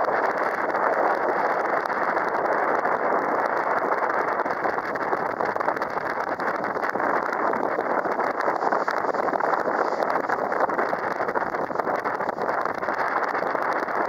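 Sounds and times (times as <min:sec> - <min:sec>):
wind on microphone: 0:00.0 - 0:14.0
boat engine and water rush: 0:00.1 - 0:14.0.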